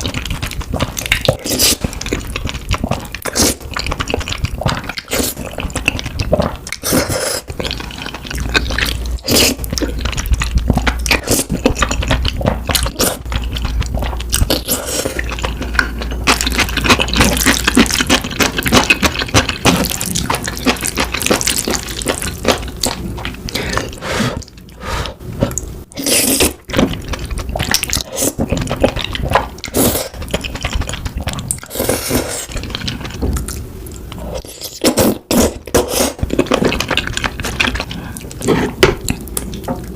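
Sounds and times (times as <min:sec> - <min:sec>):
wet sticky chewing: 0:00.0 - 0:24.8, 0:25.4 - 0:39.9.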